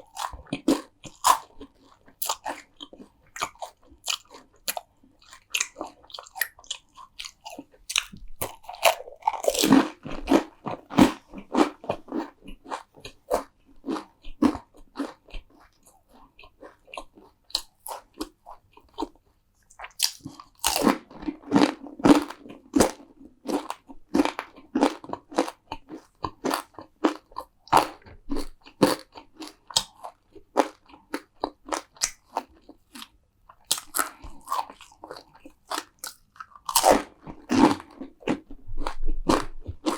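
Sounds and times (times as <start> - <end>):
crisp food crunching: 0.0 - 19.1, 19.7 - 39.9.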